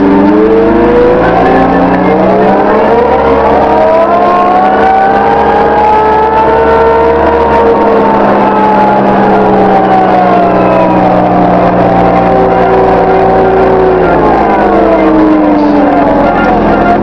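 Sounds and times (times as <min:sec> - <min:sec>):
diesel engine running loud: 0:00.0 - 0:17.0
whine climbing in pitch: 0:00.0 - 0:17.0.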